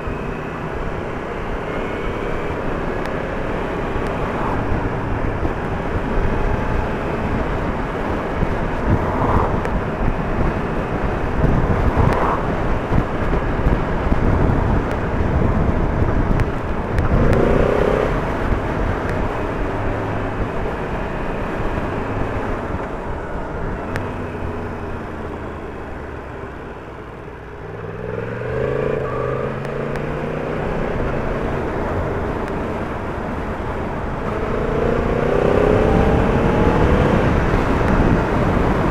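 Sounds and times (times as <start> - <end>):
wind and road rush: 0.0 - 38.9.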